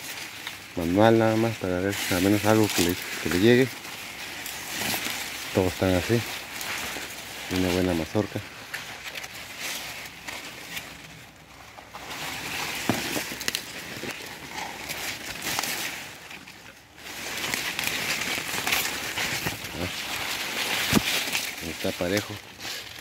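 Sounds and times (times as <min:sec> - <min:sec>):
leaves rustling against phone: 0:00.0 - 0:23.0
small crackles and knocks: 0:00.0 - 0:23.0.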